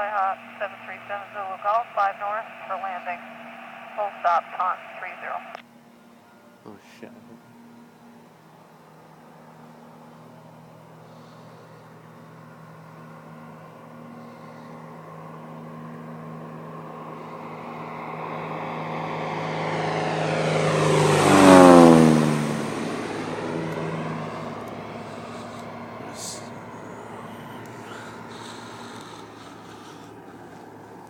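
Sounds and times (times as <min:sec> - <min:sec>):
propeller aircraft passing overhead: 0:00.0 - 0:31.0.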